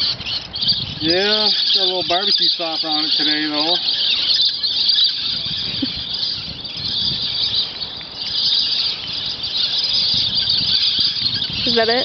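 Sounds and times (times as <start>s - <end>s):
flock of birds screeching: 0.0s - 12.0s.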